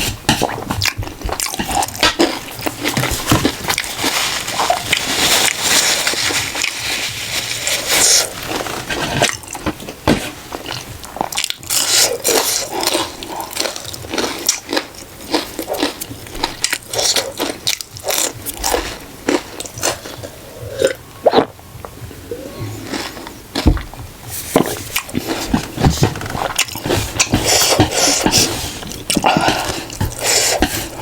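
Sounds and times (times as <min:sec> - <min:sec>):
chewing and crunching: 0:00.0 - 0:31.0.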